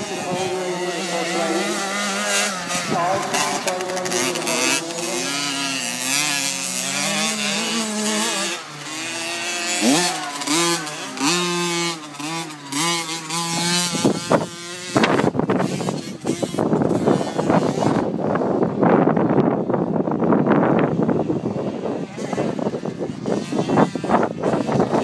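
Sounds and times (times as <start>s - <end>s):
two-stroke motorbike engine revving: 0.0s - 25.0s
wind buffeting microphone: 0.0s - 25.0s.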